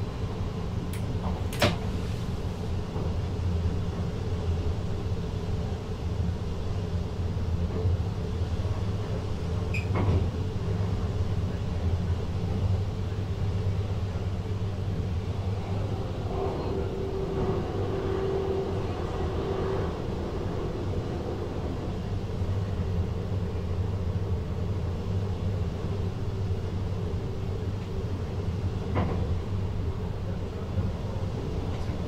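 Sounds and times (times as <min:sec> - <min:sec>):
train cab hum and rumble: 0:00.0 - 0:32.0.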